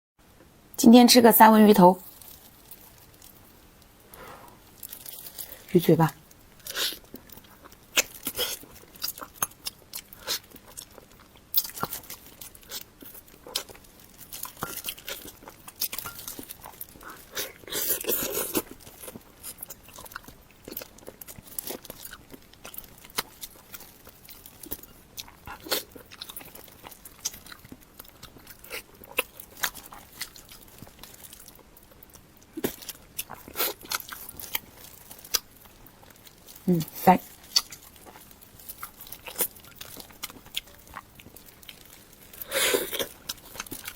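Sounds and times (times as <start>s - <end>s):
person chewing and crunching: 2.0s - 43.9s.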